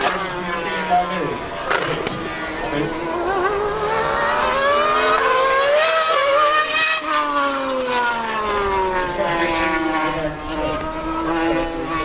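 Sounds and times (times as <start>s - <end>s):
motorbike engine at full throttle: 0.0s - 12.0s
race car engine at full throttle: 0.0s - 12.0s.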